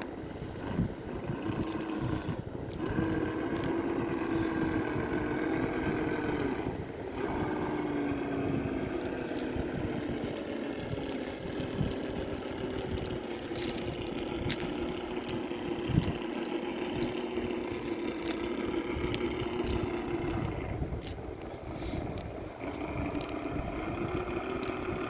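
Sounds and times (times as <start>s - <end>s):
electric motor whining: 0.6s - 25.0s.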